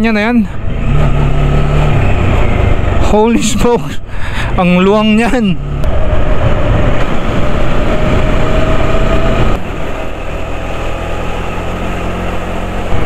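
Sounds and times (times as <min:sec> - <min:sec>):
wind and road noise: 0:00.0 - 0:13.0
motorcycle engine drone: 0:00.2 - 0:13.0.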